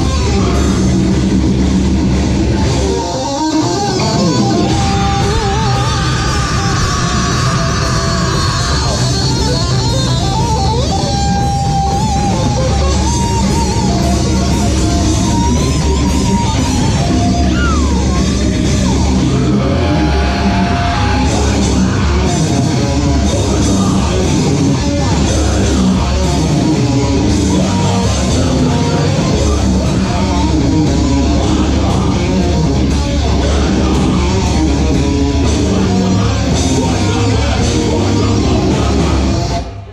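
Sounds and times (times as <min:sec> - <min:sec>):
bending guitar notes: 0:00.0 - 0:39.8
heavy metal band playing: 0:00.0 - 0:39.9.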